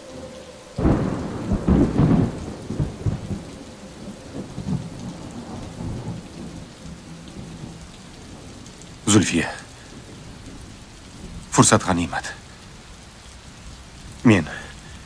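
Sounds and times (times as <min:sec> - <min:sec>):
thunder clap rumbling: 0:00.0 - 0:12.8
steady rain: 0:00.0 - 0:15.0.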